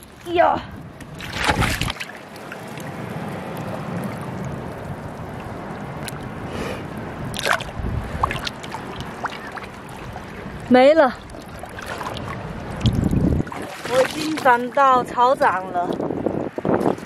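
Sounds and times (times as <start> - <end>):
seawater sloshing among rocks: 0.0 - 6.5, 7.2 - 17.0
sharp water splashes: 0.0 - 17.0.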